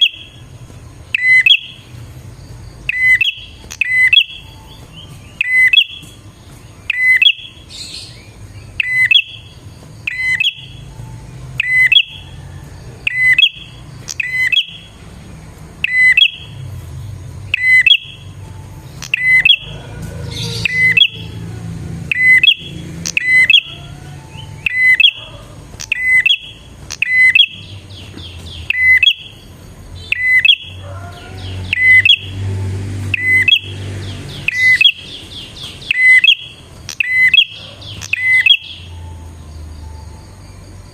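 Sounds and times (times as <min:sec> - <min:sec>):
bird chattering notes: 0:00.0 - 0:00.5, 0:01.1 - 0:02.0, 0:02.8 - 0:12.4, 0:13.0 - 0:15.0, 0:15.8 - 0:16.7, 0:17.4 - 0:32.4, 0:33.0 - 0:39.2.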